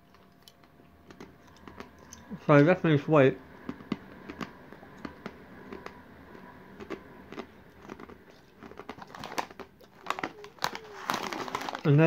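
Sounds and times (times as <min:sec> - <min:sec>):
person chewing crunchy snack: 0:00.0 - 0:02.3, 0:03.6 - 0:11.9.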